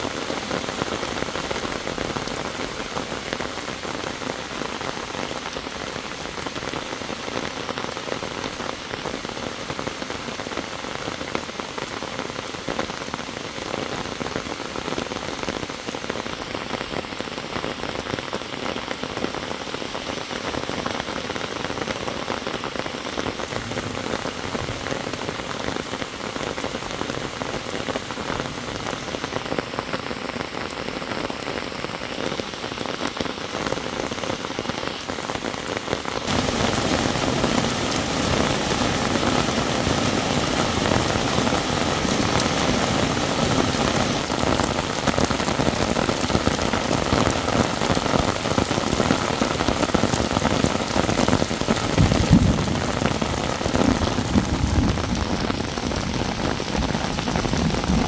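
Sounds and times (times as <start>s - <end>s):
heavy rain falling: 0.0s - 58.0s
rain pouring off a roof: 0.0s - 58.0s.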